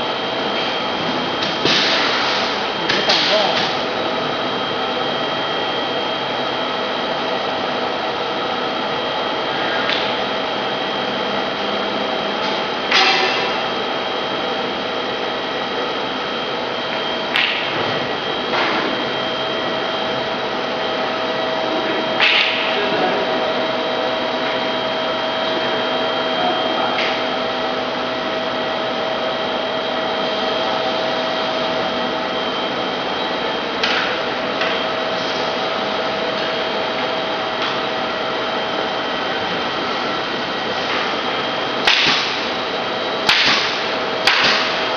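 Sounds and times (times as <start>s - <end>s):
machinery hum with whine: 0.0s - 44.9s.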